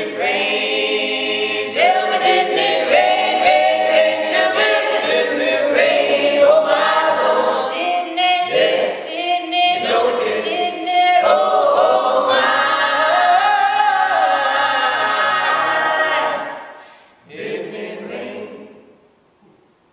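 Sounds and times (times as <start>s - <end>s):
choir singing a cappella: 0.0s - 19.1s.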